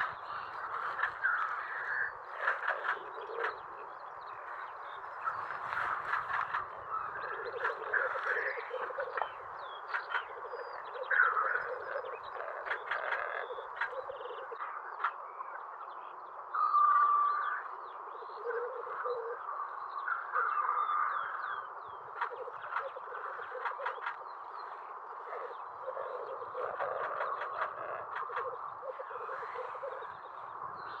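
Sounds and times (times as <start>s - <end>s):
grouse croaking and rattling call: 0.0s - 15.2s, 16.6s - 31.0s.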